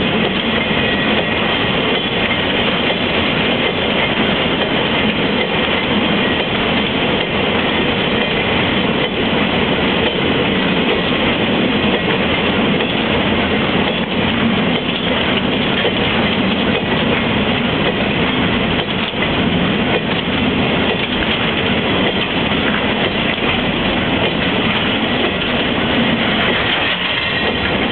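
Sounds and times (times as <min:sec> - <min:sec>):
freight train wheels clattering: 0:00.0 - 0:27.9.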